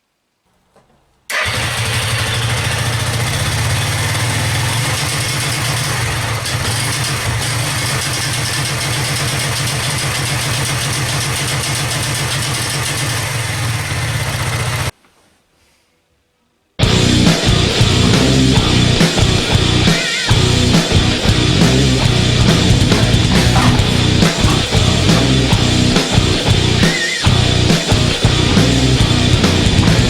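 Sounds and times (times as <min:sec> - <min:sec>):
motorcycle engine running: 0:01.3 - 0:14.9, 0:16.8 - 0:30.0.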